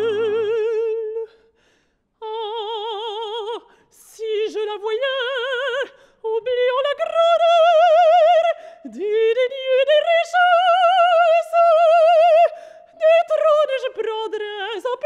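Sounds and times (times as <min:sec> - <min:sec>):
woman singing operatically: 0:00.0 - 0:01.4, 0:02.2 - 0:15.0.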